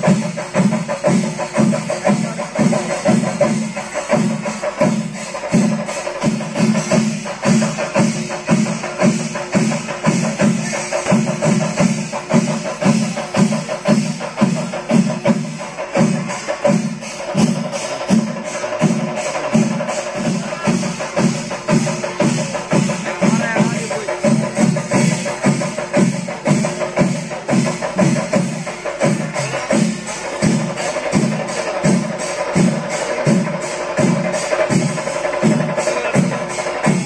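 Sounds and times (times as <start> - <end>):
clashing cymbals: 0.0 - 37.0
drums beating steady pulse: 0.0 - 37.0.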